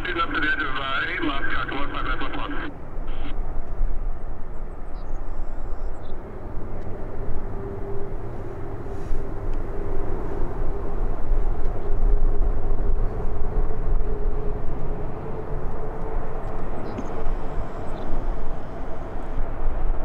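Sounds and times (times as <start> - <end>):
faint jet engine whine: 0.0 - 20.0
jet engines rumbling: 0.0 - 20.0.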